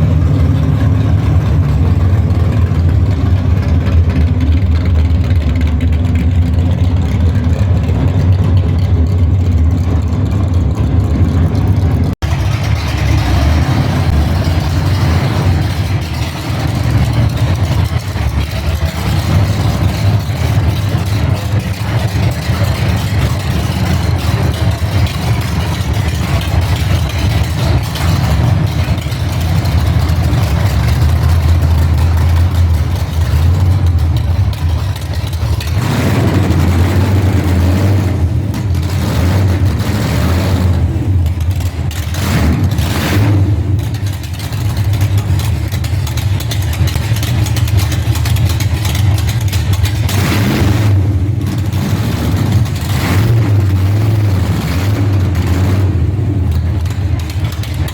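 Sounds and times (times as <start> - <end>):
car engine rumbling: 0.0 - 57.9.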